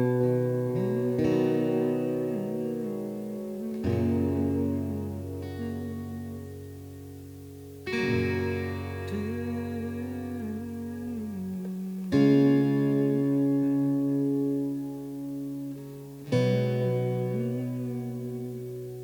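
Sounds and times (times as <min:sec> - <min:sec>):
guitar chords with reverb: 0:00.0 - 0:19.0
wavering guitar notes: 0:00.0 - 0:19.0.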